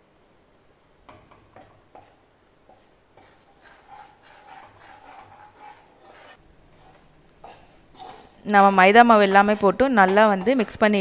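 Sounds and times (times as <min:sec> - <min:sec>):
ladle scraping and stirring: 0:01.3 - 0:11.0.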